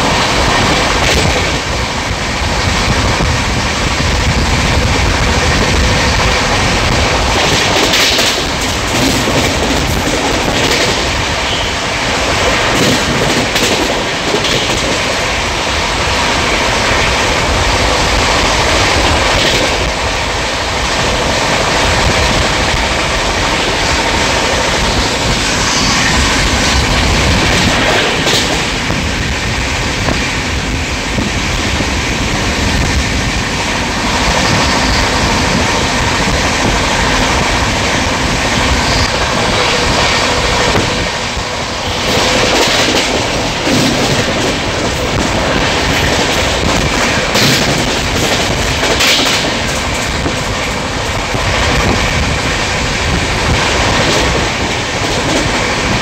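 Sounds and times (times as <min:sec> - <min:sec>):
train rumble inside carriage: 0:00.0 - 0:56.0.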